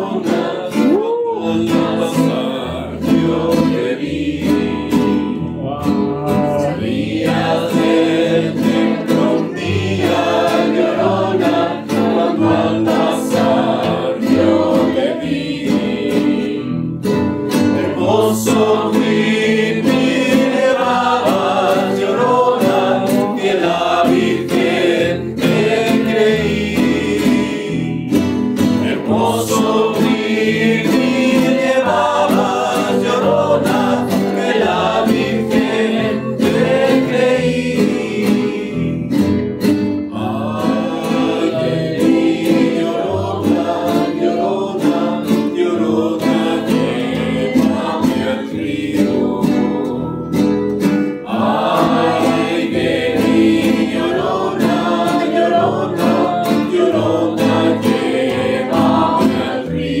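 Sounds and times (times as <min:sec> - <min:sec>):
people singing together: 0:00.0 - 1:00.0
strummed guitars: 0:00.0 - 1:00.0.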